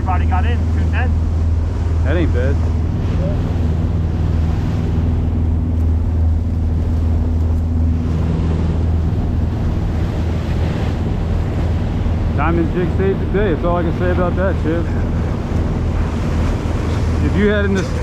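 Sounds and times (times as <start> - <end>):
boat engine droning: 0.0 - 18.0
water rushing along hull: 0.0 - 18.0
wind buffeting microphone: 0.0 - 18.0.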